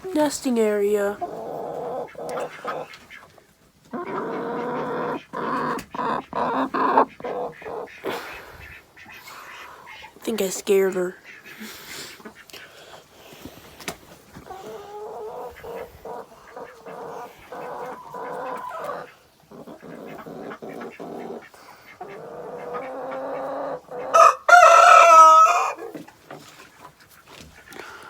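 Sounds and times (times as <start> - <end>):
hen clucking: 0.0 - 28.0.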